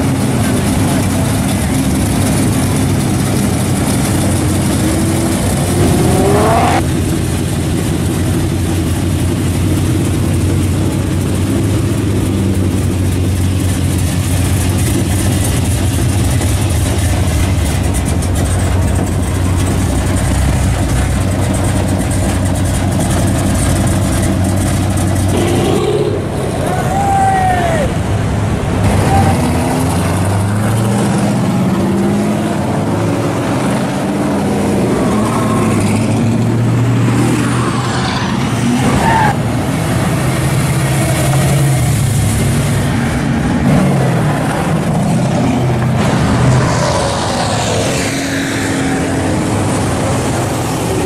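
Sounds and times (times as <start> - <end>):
engine revving: 0.0 - 7.5, 9.6 - 51.0
car engines running at low speed: 0.0 - 51.0.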